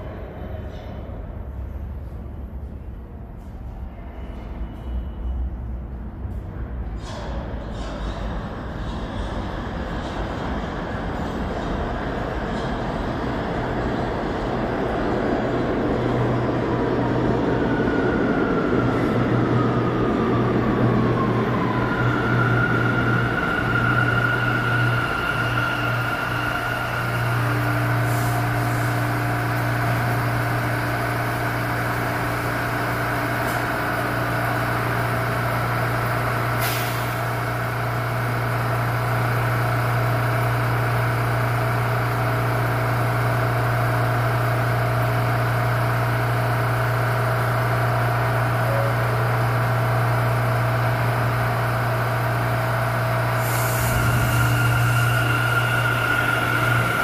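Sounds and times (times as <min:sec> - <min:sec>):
subway train humming: 0:00.0 - 0:57.0.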